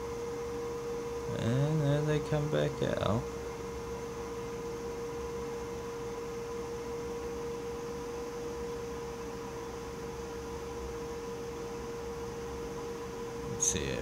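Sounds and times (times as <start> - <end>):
steady mid-pitched hum: 0.0 - 14.0.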